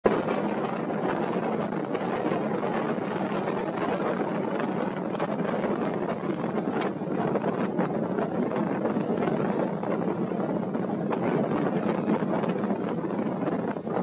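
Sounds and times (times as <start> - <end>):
choppy sea: 0.0 - 14.0
wind on microphone: 0.0 - 14.0.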